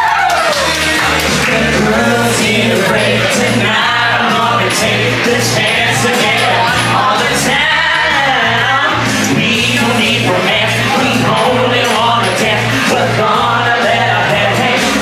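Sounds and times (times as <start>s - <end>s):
singing over bass beat: 0.0s - 15.0s.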